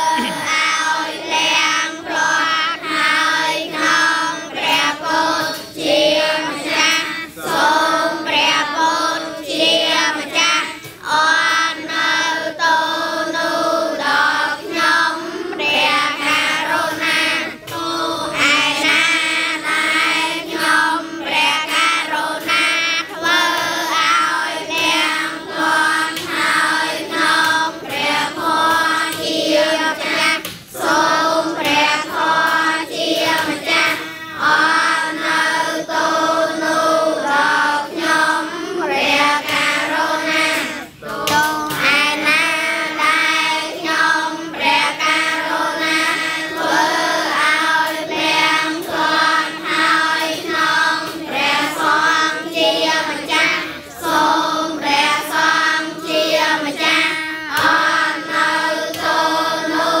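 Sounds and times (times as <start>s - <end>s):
children chanting prayers in unison: 0.0s - 60.0s.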